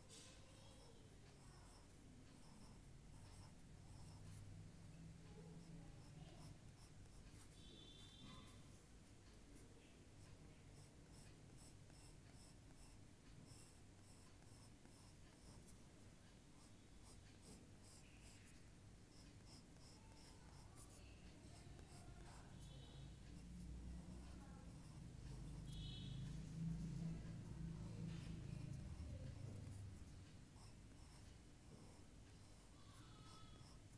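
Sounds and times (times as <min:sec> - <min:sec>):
drawing tool scratching on paper: 0:00.1 - 0:08.8, 0:09.8 - 0:15.9, 0:16.6 - 0:33.9.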